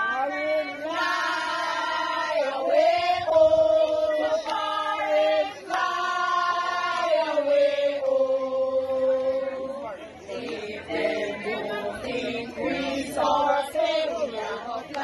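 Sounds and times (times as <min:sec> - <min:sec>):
group of women singing a chant: 0:00.0 - 0:15.0.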